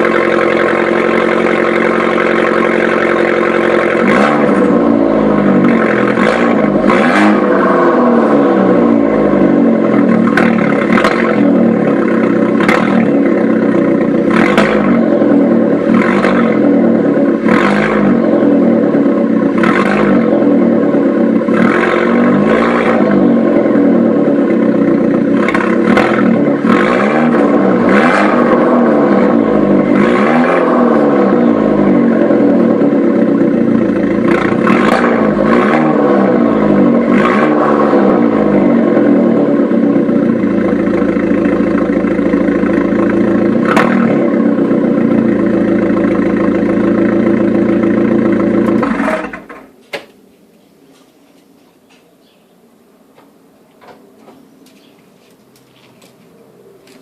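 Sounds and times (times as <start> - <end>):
car engine revving and idling: 0.0 - 49.8.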